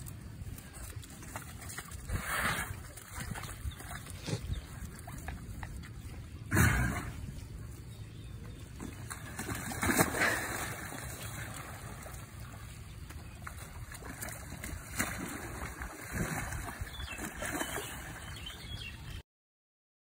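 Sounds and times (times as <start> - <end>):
wet mud sloshing and splashing: 0.0 - 6.2, 8.6 - 19.0
outdoor background noise: 0.0 - 19.2.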